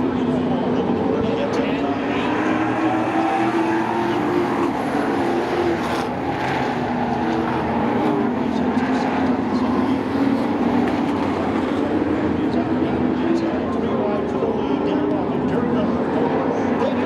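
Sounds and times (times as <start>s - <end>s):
racing truck engines droning: 0.0s - 17.0s.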